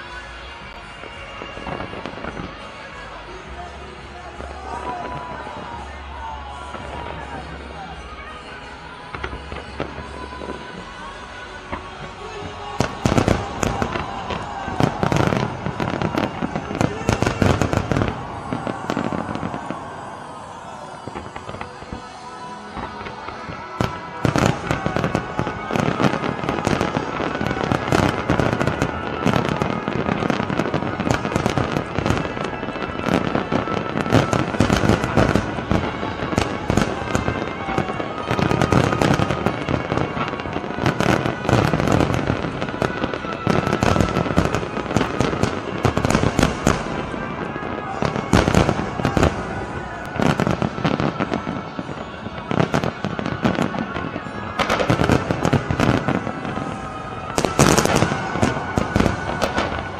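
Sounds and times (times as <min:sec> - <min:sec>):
fireworks bangs and crackles: 0:00.0 - 0:59.9
show music: 0:00.0 - 0:59.9.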